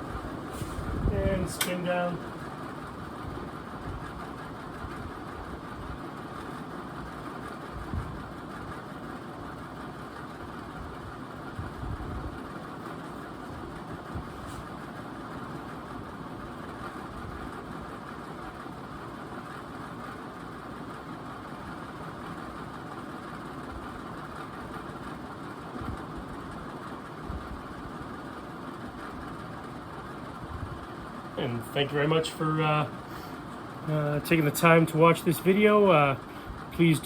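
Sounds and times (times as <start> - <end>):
ceiling fan whooshing: 0.0 - 37.0.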